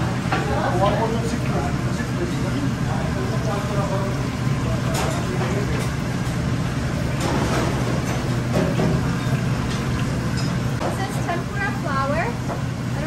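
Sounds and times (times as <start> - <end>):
gas range and ventilation roar: 0.0 - 13.0
hot oil sizzling: 0.0 - 13.0.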